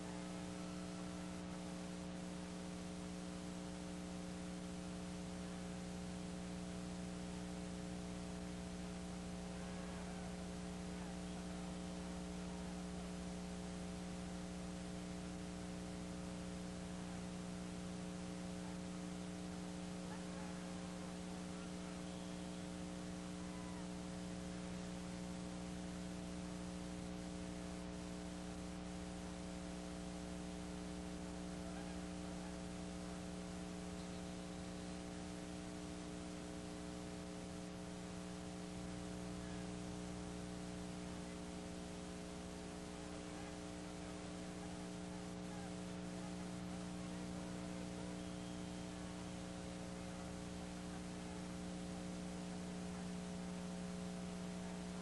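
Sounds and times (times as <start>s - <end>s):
constant hiss: 0.0s - 55.0s
electrical hum: 0.0s - 55.0s.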